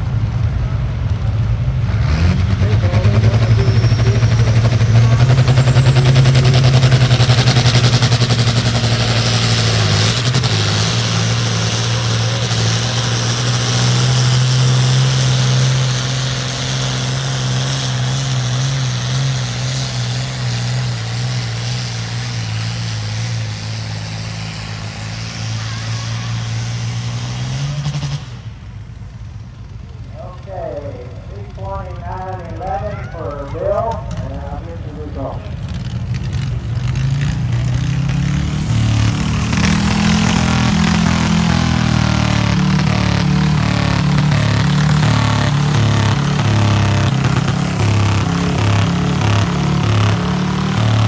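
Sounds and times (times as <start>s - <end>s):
tractor engine running hard: 0.0s - 51.0s.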